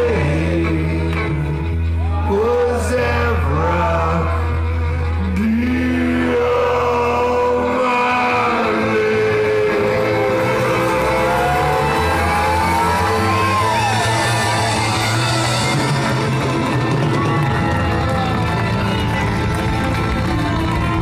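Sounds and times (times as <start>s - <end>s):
drums: 0.0s - 21.0s
guitar: 0.0s - 21.0s.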